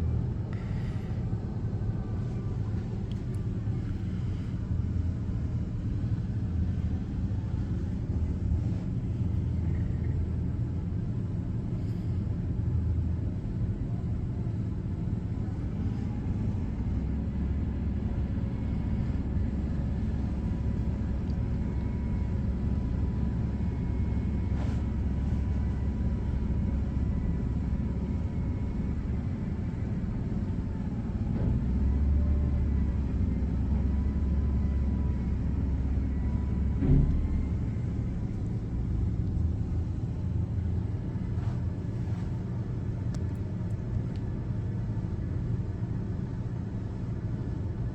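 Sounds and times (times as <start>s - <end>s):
diesel truck engine running: 0.0s - 47.9s
thin steady whine: 0.0s - 47.9s.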